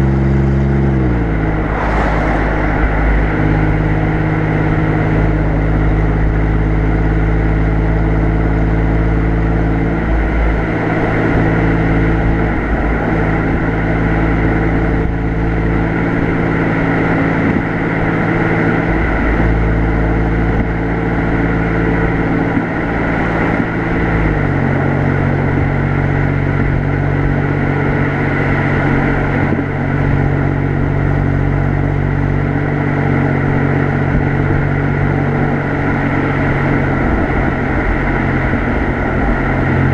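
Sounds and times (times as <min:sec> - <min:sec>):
car exhaust note: 0:00.0 - 0:39.9
road noise: 0:00.0 - 0:39.9.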